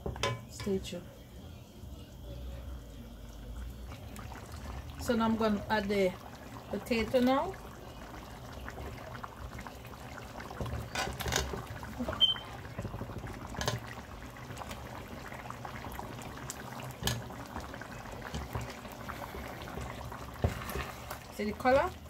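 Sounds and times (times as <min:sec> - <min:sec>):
stew simmering: 0:01.5 - 0:22.0.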